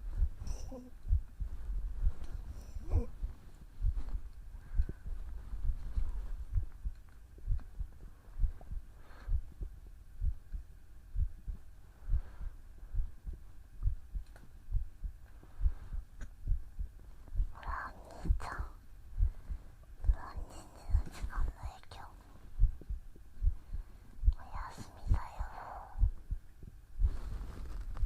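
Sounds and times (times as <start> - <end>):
heartbeat thumps: 0.0 - 28.0.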